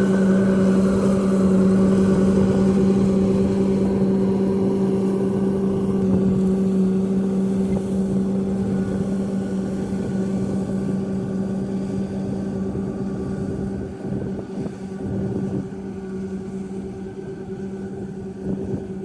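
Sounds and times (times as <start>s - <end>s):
harvester engine humming: 0.0s - 19.0s.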